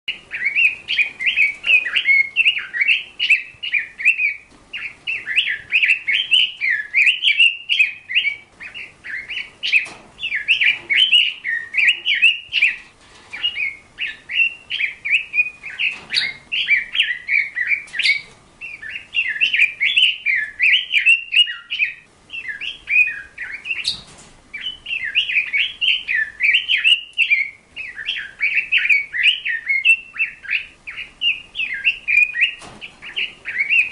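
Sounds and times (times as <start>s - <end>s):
songbird warbling: 0.1s - 33.9s.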